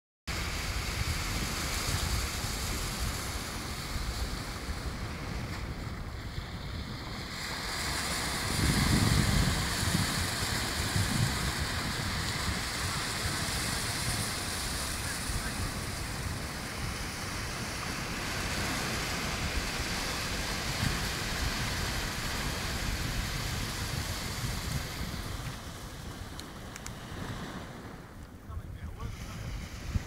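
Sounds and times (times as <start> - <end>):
surf breaking on a beach: 0.3 - 30.0
wind buffeting microphone: 0.3 - 30.0.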